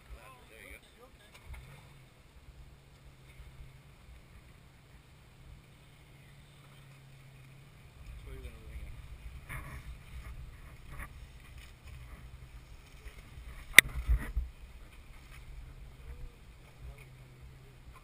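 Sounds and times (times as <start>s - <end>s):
engine running low: 0.8s - 18.0s.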